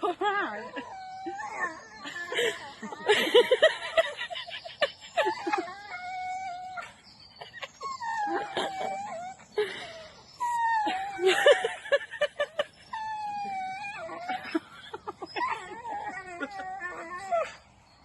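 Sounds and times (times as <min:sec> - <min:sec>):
dog whining: 0:00.4 - 0:17.7.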